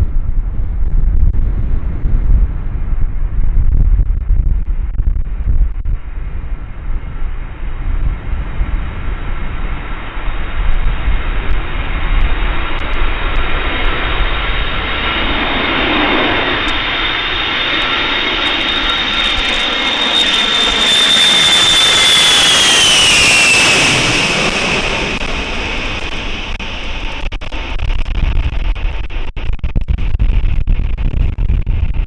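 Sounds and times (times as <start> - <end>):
jet aircraft whine and rumble: 0.0 - 32.0
wind buffeting microphone: 0.0 - 32.0.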